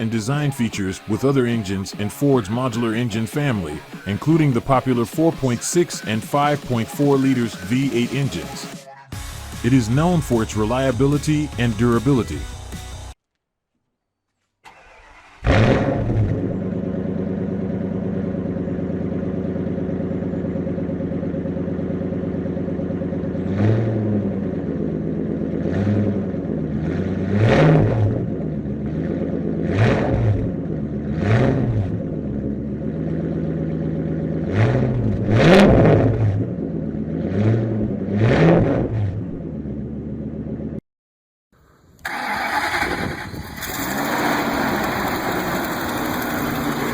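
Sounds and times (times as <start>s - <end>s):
engine idling and revving: 0.0s - 13.2s, 14.7s - 40.8s, 42.0s - 46.9s.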